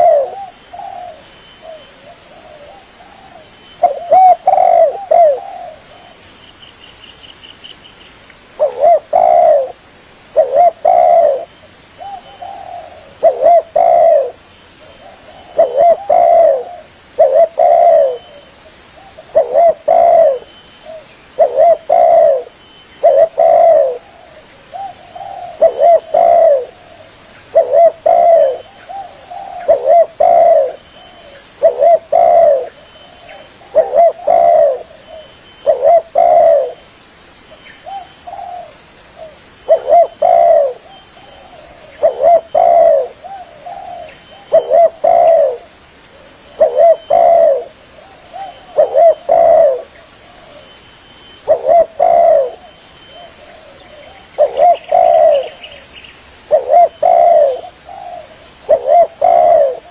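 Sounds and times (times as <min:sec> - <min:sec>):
dove cooing: 0:00.0 - 0:06.4, 0:08.6 - 0:36.9, 0:37.8 - 0:59.9.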